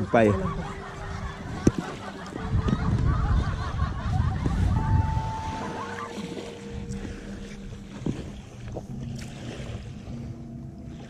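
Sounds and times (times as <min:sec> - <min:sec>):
small waves lapping shore: 0:00.0 - 0:11.0
wind buffeting microphone: 0:00.0 - 0:11.0.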